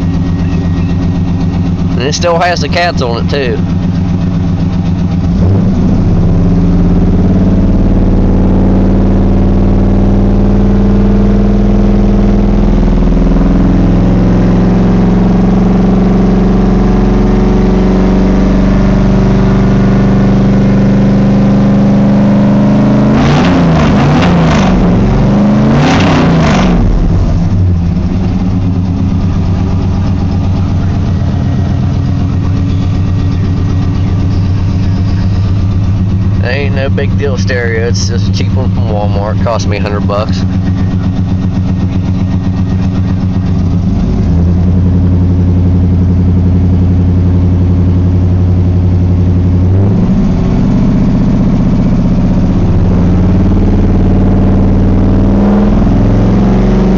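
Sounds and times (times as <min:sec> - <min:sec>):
truck engine idling: 0:00.0 - 0:21.8, 0:26.8 - 0:56.9.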